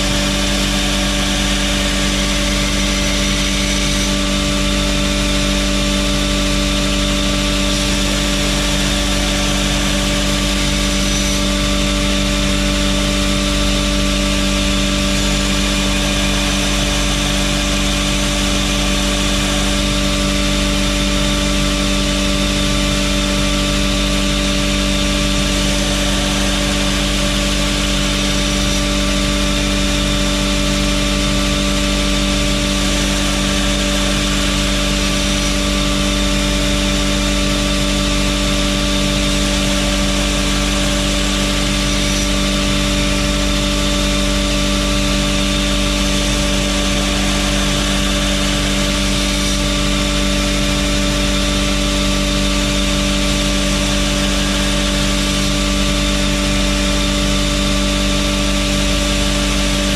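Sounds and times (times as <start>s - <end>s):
abrasive belt hissing on steel: 0.0s - 5.8s, 6.8s - 57.5s
belt grinder motor humming: 0.0s - 59.9s.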